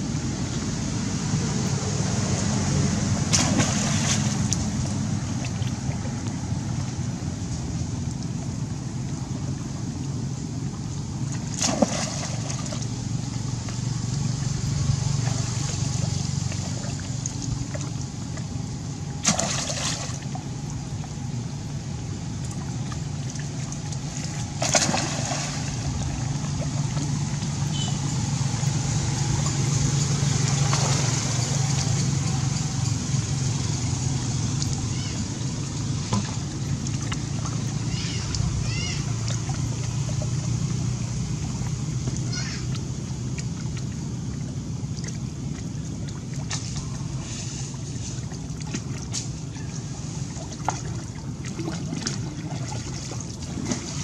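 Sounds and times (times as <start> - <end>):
steady low hum: 0.0 - 54.0
water sloshing and splashing: 0.0 - 54.0.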